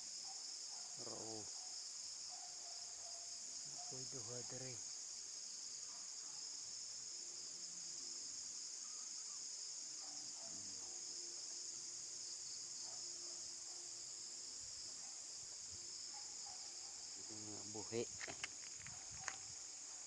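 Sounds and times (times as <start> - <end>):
crickets and night insects trilling: 0.0 - 20.0.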